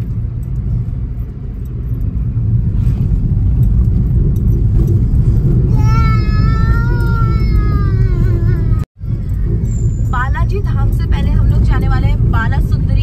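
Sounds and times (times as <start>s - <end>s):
car driving low rumble: 0.0s - 13.0s.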